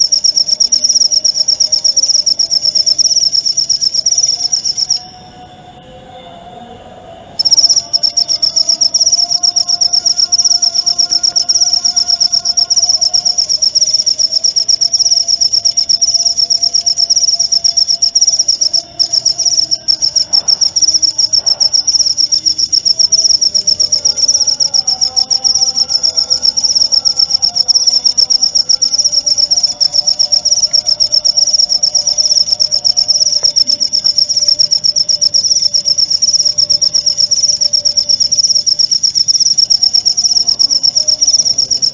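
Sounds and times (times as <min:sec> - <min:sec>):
lower wavering insect calls: 0:00.0 - 0:05.2, 0:07.4 - 0:41.9
cricket trilling: 0:00.0 - 0:05.4, 0:07.4 - 0:41.9.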